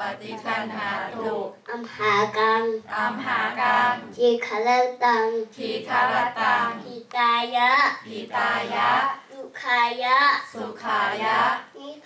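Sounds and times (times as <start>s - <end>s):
boy chanting prayers: 0.0s - 12.0s.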